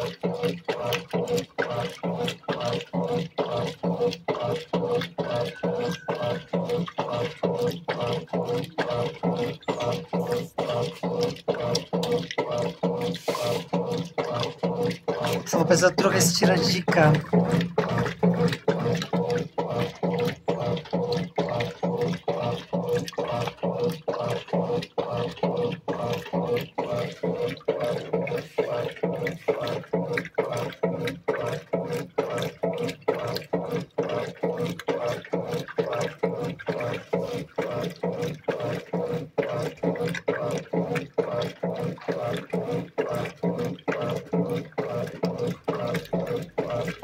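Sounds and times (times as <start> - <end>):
washing machine motor hum: 0.0 - 47.0
water sloshing: 0.0 - 47.0.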